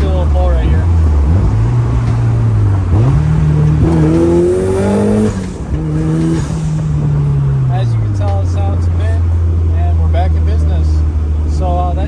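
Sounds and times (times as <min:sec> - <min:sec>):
car engine accelerating: 0:00.0 - 0:11.6.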